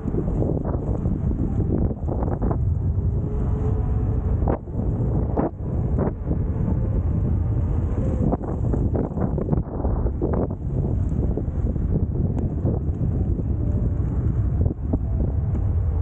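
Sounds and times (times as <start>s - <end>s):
wheels rumbling on road: 0.0s - 16.0s
wind buffeting microphone: 0.0s - 16.0s.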